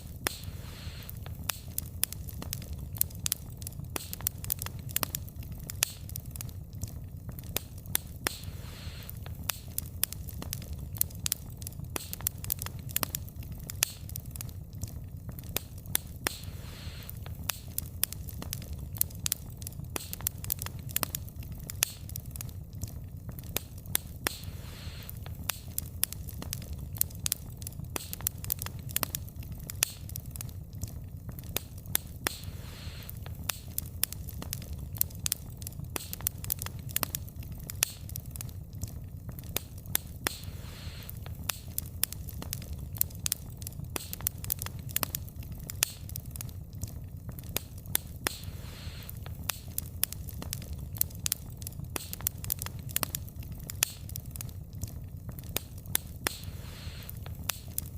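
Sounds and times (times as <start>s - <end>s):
burning logs crackling and popping: 0.0s - 57.9s
low rumble of flames: 0.0s - 57.9s.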